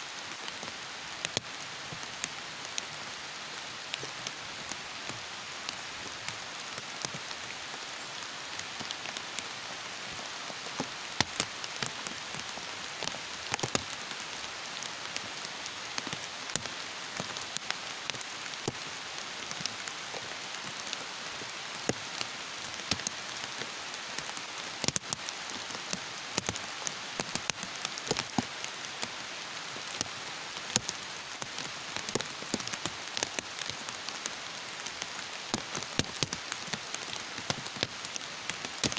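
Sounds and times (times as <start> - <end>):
heavy rain falling: 0.0 - 38.9
sharp raindrops striking close: 0.0 - 38.9.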